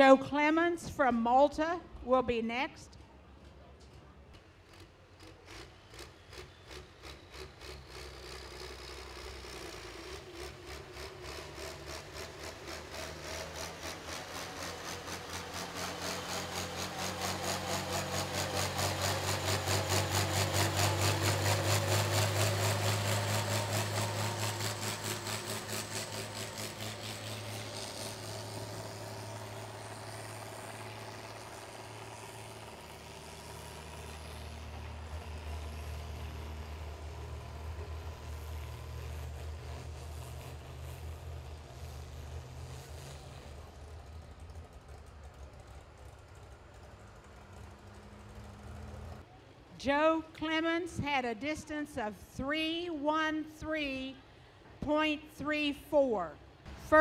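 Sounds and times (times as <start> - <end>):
truck engine at full throttle: 3.3 - 50.7.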